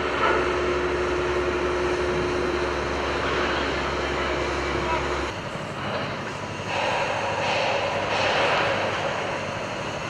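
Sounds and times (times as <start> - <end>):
rushing engine noise: 0.0 - 10.0.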